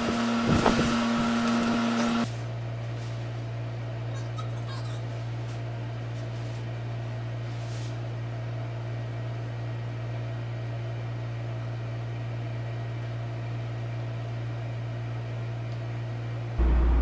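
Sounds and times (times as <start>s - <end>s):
low mechanical motor hum: 0.0s - 17.0s.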